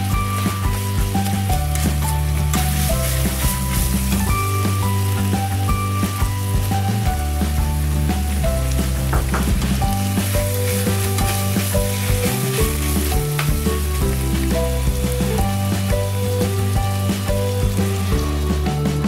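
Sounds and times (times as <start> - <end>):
background music with bass line: 0.0 - 19.0
meat sizzling in a pot: 0.0 - 19.0.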